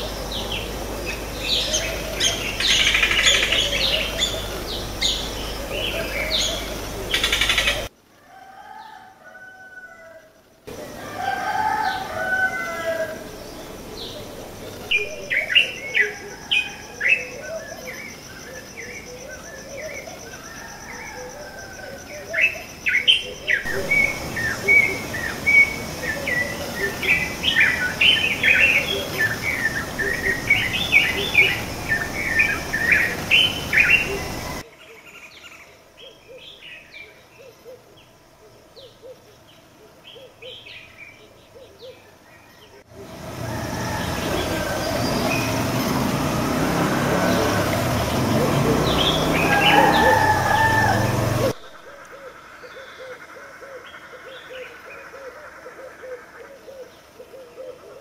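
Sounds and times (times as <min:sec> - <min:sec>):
birds chirping and singing: 0:00.0 - 0:07.9, 0:10.7 - 0:37.9, 0:38.8 - 0:58.0.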